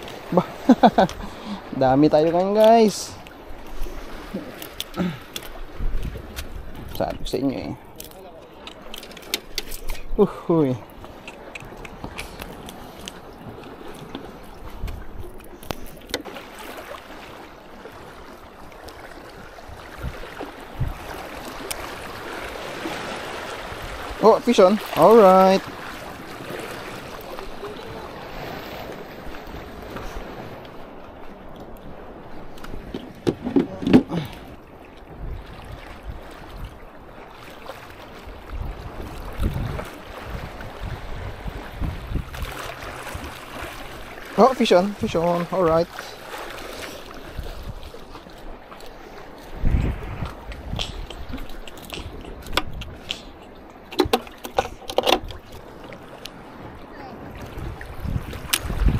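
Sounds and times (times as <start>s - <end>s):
sea water lapping: 0.0s - 58.9s
wind buffeting microphone: 2.7s - 7.9s, 8.6s - 16.1s, 19.2s - 46.0s, 47.0s - 58.9s.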